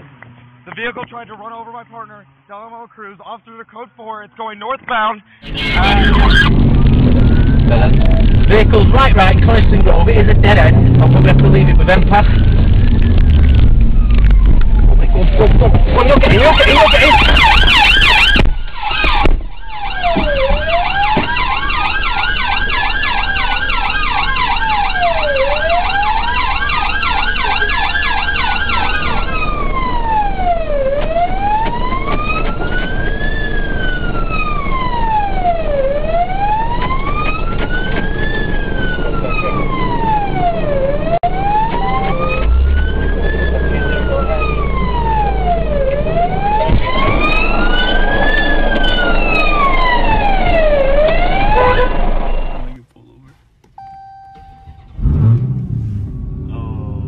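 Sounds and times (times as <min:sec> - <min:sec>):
fast repeating siren: 0:05.4 - 0:52.7
police siren slow wail: 0:05.4 - 0:52.8.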